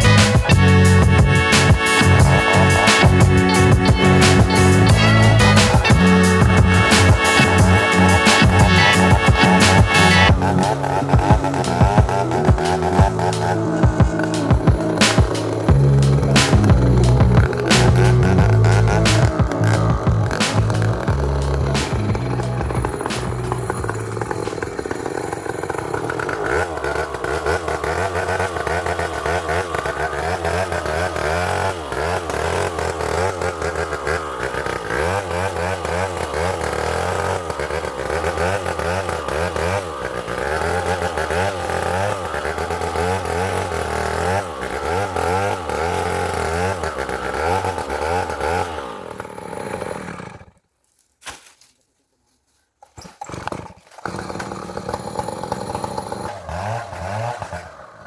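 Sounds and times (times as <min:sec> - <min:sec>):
chainsaw cutting wood: 0:00.0 - 0:51.5, 0:52.8 - 0:58.0.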